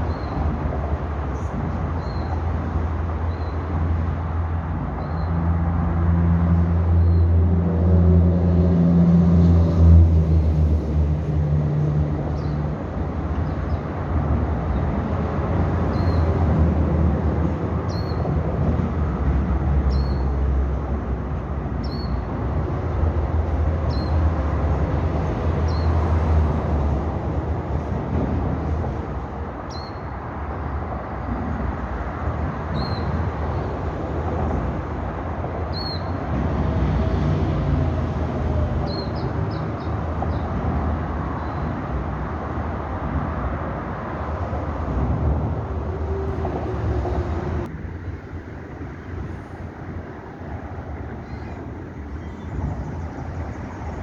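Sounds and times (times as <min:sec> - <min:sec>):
low rumble of vehicles: 0:00.0 - 0:54.0.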